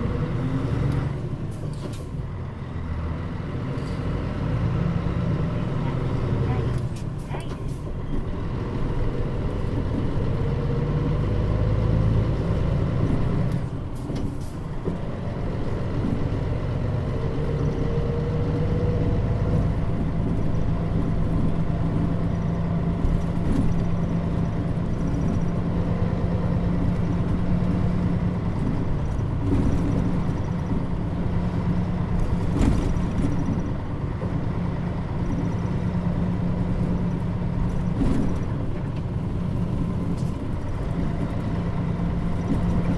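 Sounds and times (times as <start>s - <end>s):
bus diesel engine drone: 0.0s - 42.9s.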